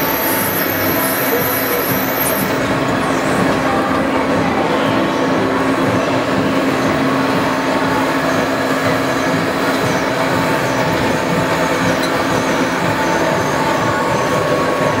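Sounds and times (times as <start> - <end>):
ride car rolling rumble on rail: 0.0 - 15.0.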